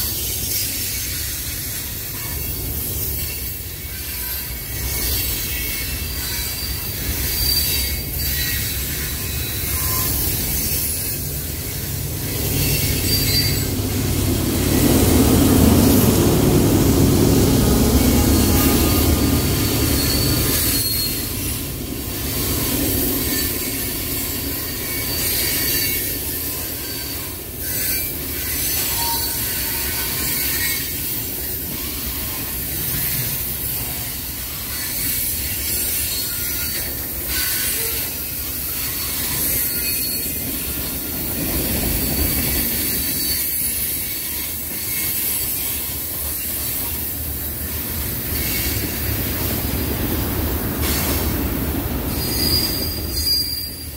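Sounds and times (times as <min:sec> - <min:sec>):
diesel locomotive engine: 0:00.0 - 0:53.9
freight train wheels rumbling: 0:00.0 - 0:53.9
high wheel squeal: 0:00.0 - 0:53.9
hiss: 0:00.0 - 0:53.9.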